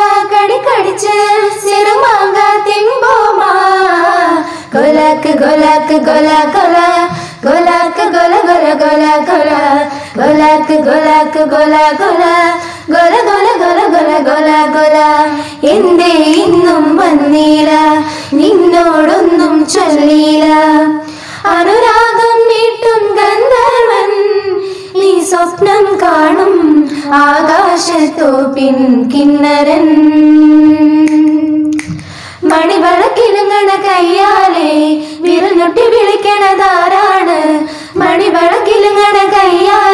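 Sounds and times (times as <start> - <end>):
women singing in unison: 0.0 - 39.9.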